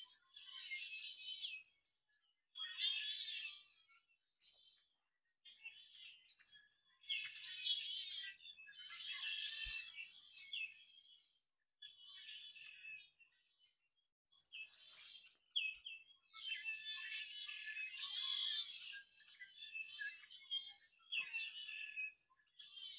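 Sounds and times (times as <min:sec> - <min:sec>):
small songbirds chirping: 0:00.0 - 0:22.9.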